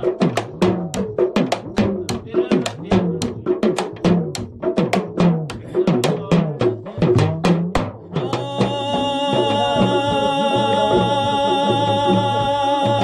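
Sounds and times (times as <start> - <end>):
fast drum beat: 0.0 - 13.0.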